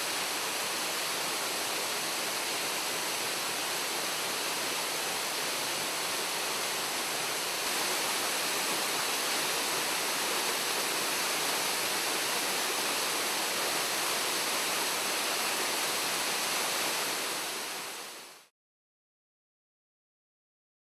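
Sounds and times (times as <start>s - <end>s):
waterfall roaring: 0.0s - 18.5s.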